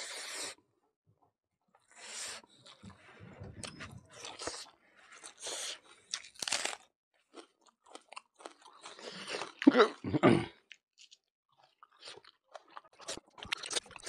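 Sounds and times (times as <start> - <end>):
chewing with crunches and smacks: 2.4 - 14.0.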